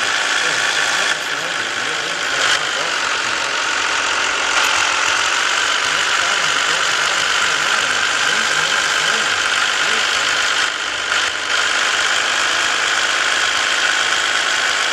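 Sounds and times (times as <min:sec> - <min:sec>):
truck engine and road noise: 0:00.0 - 0:14.9.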